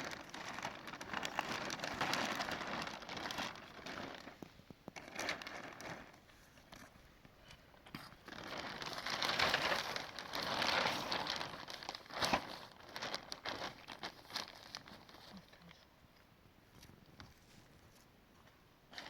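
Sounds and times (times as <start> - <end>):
crinkling and rustling: 0.0 - 15.9, 16.7 - 19.0.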